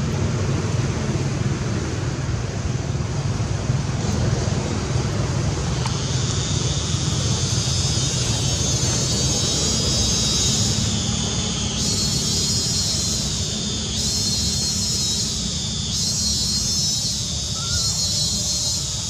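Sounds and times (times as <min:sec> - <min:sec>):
low steady rumble: 0:00.0 - 0:19.0
insects droning: 0:00.6 - 0:19.0.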